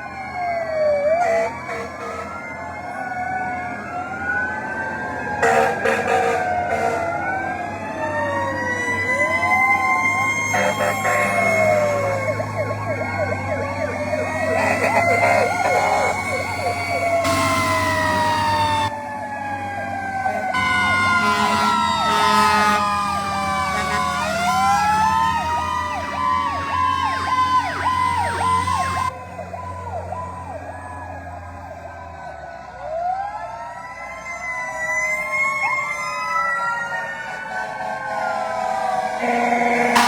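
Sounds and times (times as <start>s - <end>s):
fire truck sirens wailing: 0.0s - 40.0s
truck engines droning: 0.0s - 40.0s.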